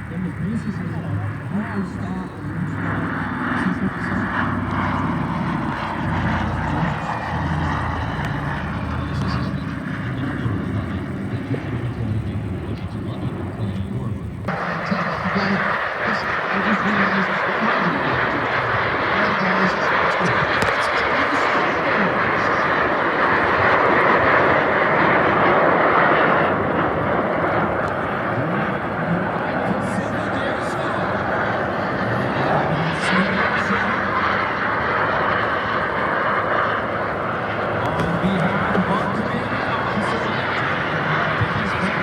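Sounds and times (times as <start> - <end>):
propeller aircraft engines droning: 0.0 - 42.0.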